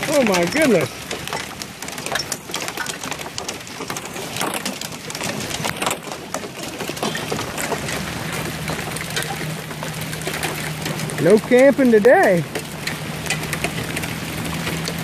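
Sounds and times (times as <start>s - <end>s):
hail and rain falling: 0.0s - 15.0s.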